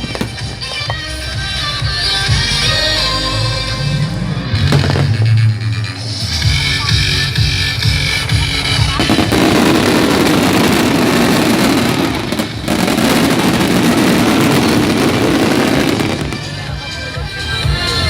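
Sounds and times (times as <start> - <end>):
fireworks crackling and rumbling: 0.0 - 1.7, 4.0 - 18.0
show music: 0.0 - 18.0.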